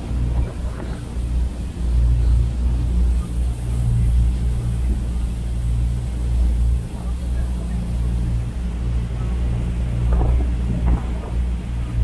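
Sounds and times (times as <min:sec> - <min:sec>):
churn of boat wake: 0:00.0 - 0:12.0
motor boat engine rumble: 0:00.0 - 0:12.0.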